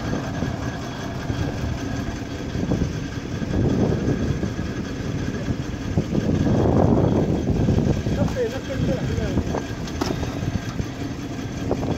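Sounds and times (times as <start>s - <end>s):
drilling machinery engine running: 0.0s - 11.9s.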